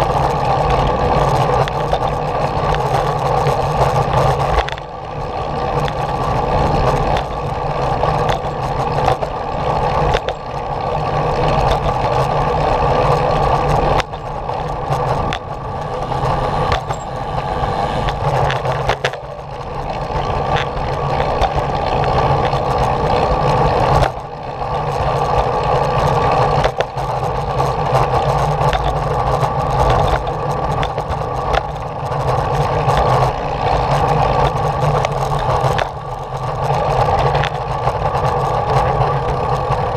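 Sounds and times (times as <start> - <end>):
small vehicle engine drone: 0.0 - 39.9.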